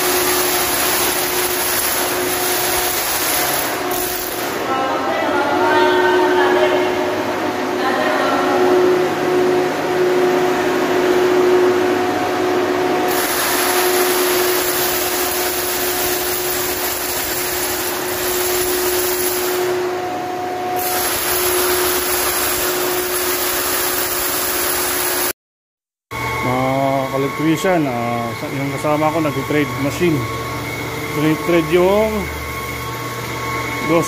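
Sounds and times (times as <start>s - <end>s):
machinery whirring: 0.0s - 25.0s, 26.2s - 34.0s.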